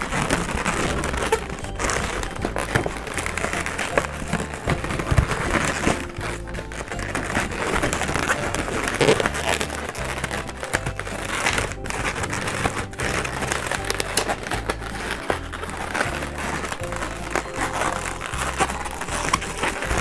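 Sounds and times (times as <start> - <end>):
background music: 0.0 - 20.0
balloons squeaking and rubbing: 0.0 - 20.0.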